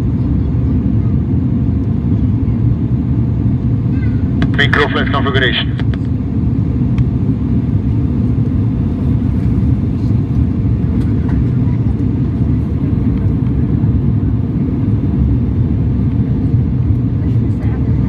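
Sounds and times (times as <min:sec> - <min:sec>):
aircraft engines low rumble: 0:00.0 - 0:18.0.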